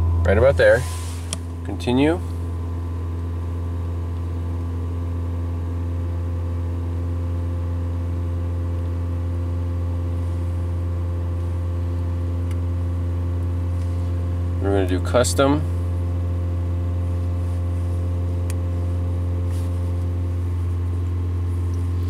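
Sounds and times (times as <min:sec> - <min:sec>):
car engine humming at raised speed: 0:00.0 - 0:22.0.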